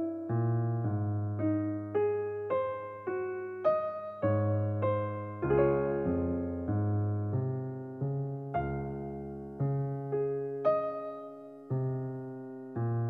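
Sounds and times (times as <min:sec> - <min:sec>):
calm instrumental music: 0:00.0 - 0:13.0.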